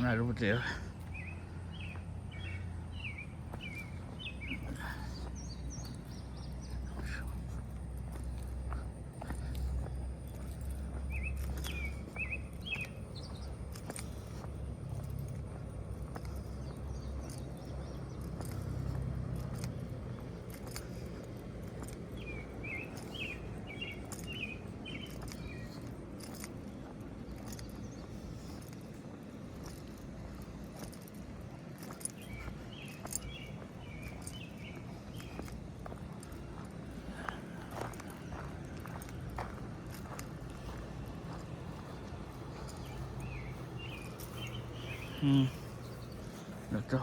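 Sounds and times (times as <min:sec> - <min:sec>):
low background rumble: 0:00.0 - 0:47.0
songbirds chirping: 0:00.0 - 0:47.0.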